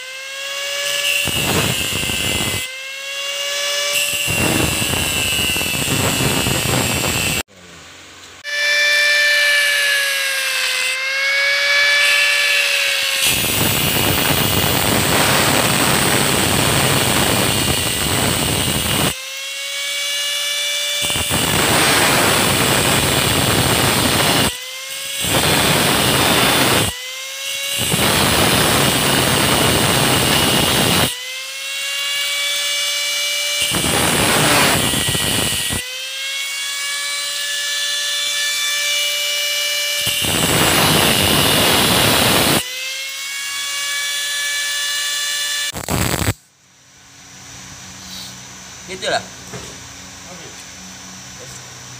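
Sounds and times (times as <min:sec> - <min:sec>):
angle grinder motor whining: 0:00.0 - 0:07.5, 0:08.2 - 0:46.5
grinder disc cutting metal: 0:00.0 - 0:07.5, 0:08.4 - 0:46.5.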